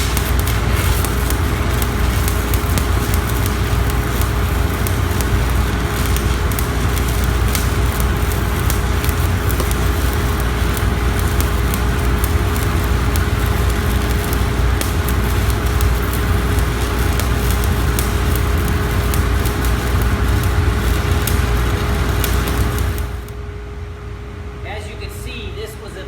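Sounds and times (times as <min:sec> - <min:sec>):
welding arc crackling and popping: 0:00.0 - 0:23.4
steady low hum: 0:00.0 - 0:26.0.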